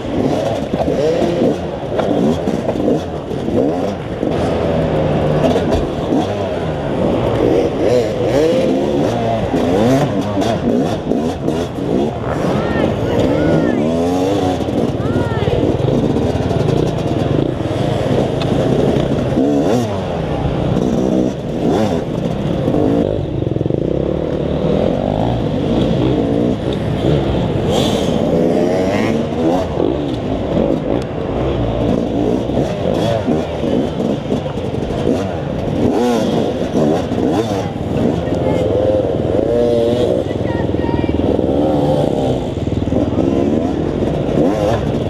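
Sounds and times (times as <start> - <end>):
dirt bike engine revving: 0.0 - 45.0
other dirt bikes revving: 0.0 - 45.0.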